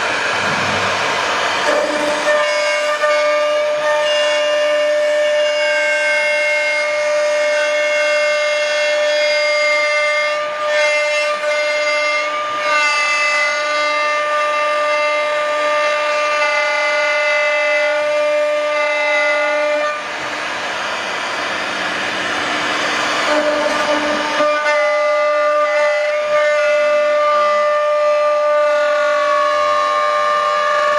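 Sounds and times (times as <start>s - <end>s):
router spindle whining: 0.0s - 30.9s.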